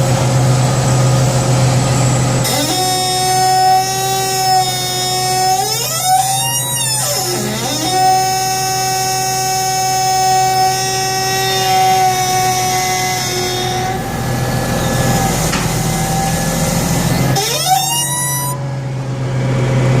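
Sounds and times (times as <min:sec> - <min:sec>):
diesel engine running: 0:00.0 - 0:20.0
high-pitched hydraulic steering squeal: 0:02.4 - 0:18.9.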